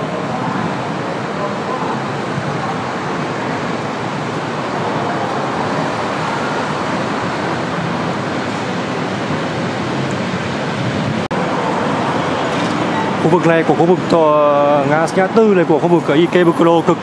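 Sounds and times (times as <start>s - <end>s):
city traffic on busy road: 0.0s - 17.0s.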